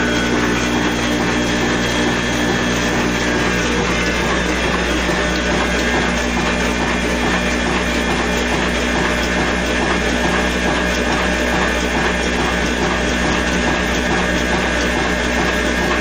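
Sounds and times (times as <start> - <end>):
stationary engine and flour mill: 0.0 - 16.0.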